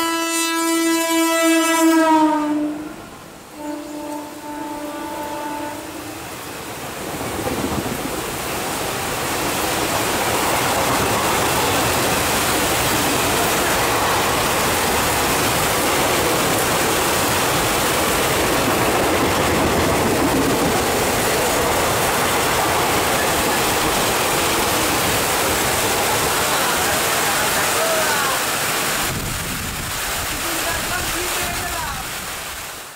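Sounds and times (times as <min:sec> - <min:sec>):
train passing at speed: 0:00.0 - 0:32.6
heavy rain: 0:00.0 - 0:32.9.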